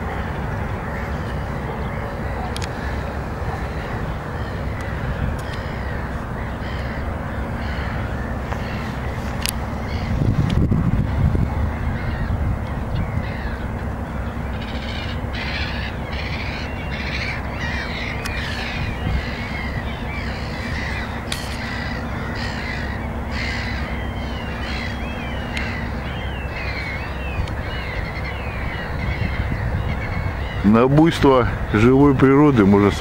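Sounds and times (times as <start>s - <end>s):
gulls calling: 0.0s - 33.0s
steady low rumble: 0.0s - 33.0s.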